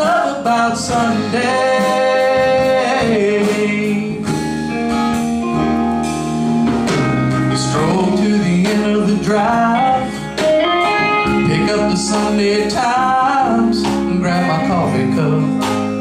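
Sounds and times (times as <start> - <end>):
bass guitar: 0.0 - 16.0
drum kit with cymbals: 0.0 - 16.0
guitars playing melody: 0.0 - 16.0.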